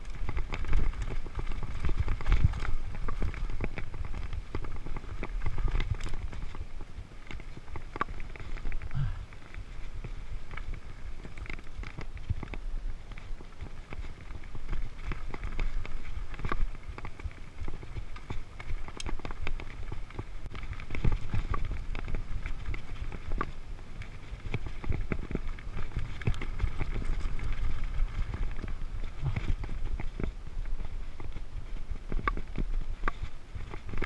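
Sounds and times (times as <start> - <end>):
bike rattling over bumps: 0.0 - 34.0
bike tyres rumbling on dirt trail: 0.0 - 34.0.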